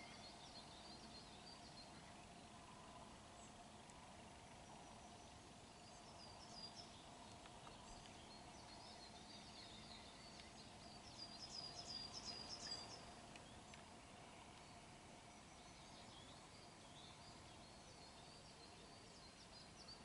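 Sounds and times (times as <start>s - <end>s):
faint steady hum: 0.0s - 20.0s
songbird chirping: 0.0s - 20.0s.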